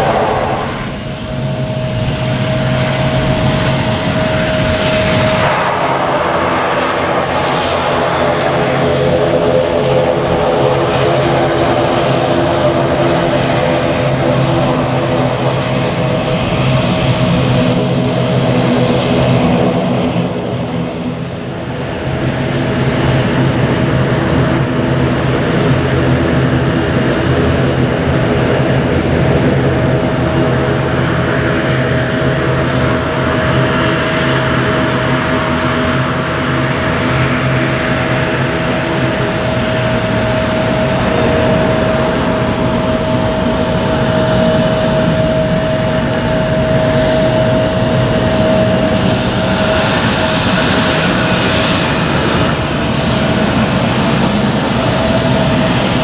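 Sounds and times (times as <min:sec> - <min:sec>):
airliner engines droning: 0:00.0 - 0:56.0.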